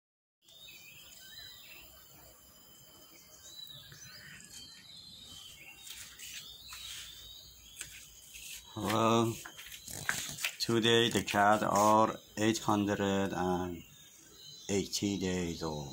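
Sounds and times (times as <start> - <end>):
birds chirping: 0.4 - 15.9
high insect drone: 0.5 - 15.9.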